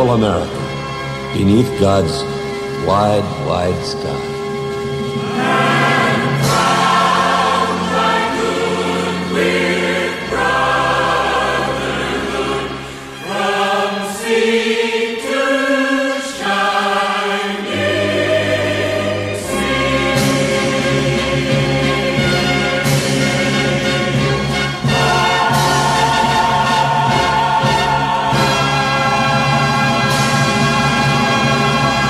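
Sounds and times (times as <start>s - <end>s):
instrumental accompaniment: 0.0s - 32.0s
choir singing: 5.1s - 32.0s.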